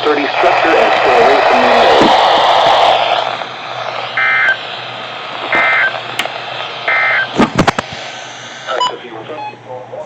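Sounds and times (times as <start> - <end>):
radio hiss: 0.0 - 10.0.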